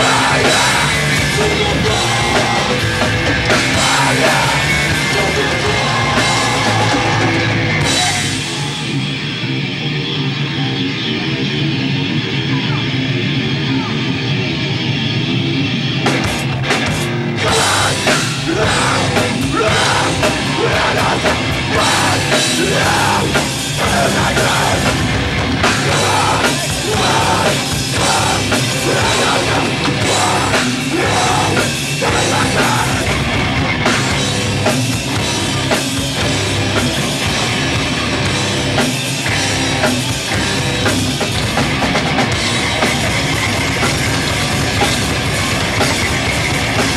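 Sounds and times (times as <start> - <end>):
drum kit with cymbals: 0.0 - 9.0, 15.9 - 46.9
distorted electric guitar: 0.0 - 46.9
punk band playing live: 0.0 - 46.9.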